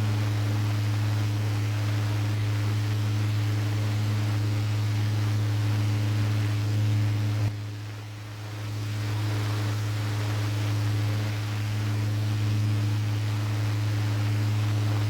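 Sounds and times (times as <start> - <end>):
desk fan running: 0.0 - 15.0.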